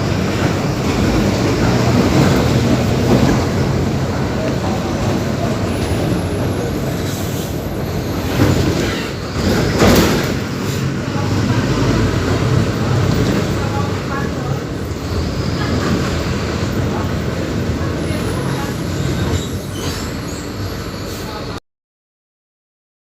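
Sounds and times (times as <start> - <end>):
body and road rumble: 0.0 - 20.0
bus diesel engine running: 0.0 - 21.6.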